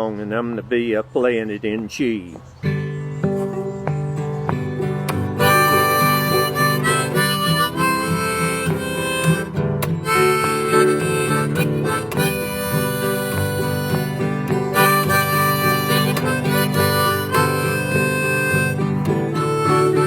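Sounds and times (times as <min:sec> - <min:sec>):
strummed acoustic guitar: 0:02.6 - 0:20.0
harmonica melody: 0:02.8 - 0:20.0.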